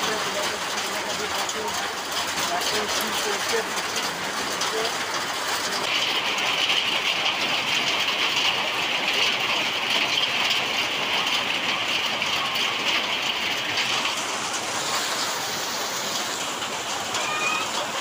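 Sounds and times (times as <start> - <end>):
torrential rain with hail: 0.0 - 18.0.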